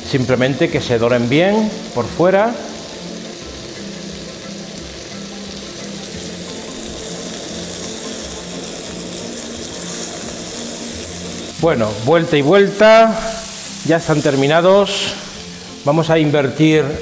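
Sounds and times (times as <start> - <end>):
meat sizzling in frying pan: 0.0 - 17.0
soft background music: 0.0 - 17.0.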